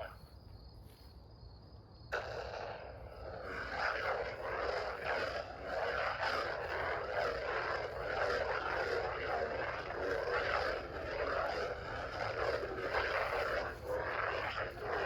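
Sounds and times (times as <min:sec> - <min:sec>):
lightsaber electric hum: 0:00.0 - 0:00.3, 0:02.1 - 0:15.0
lightsaber ignition: 0:02.1 - 0:15.0.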